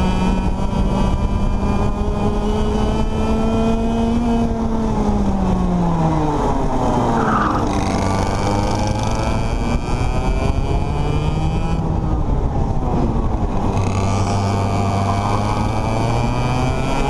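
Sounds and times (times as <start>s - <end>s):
kart engine revving: 0.0s - 17.0s.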